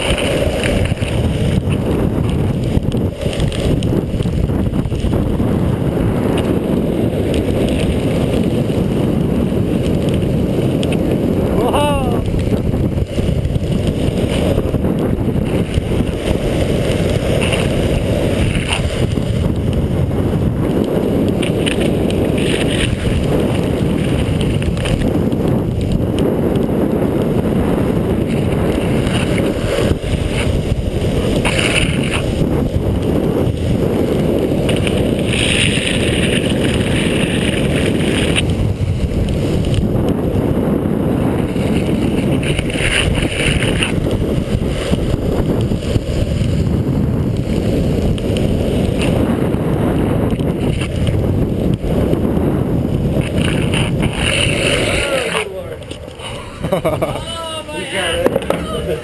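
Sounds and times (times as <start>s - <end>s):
longboard wheels hissing on wet asphalt: 0.0s - 59.0s
wind rumbling on microphone: 0.0s - 59.0s.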